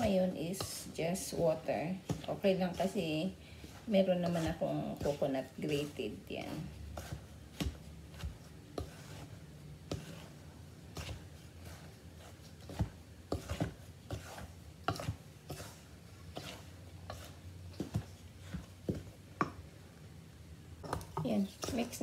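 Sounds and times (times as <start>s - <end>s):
spatula scraping metal bowl: 0.0s - 18.6s, 20.8s - 22.0s.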